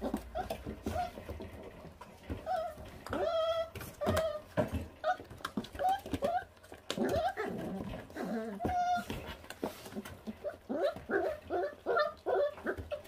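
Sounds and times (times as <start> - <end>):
puppies whining: 0.0 - 13.0.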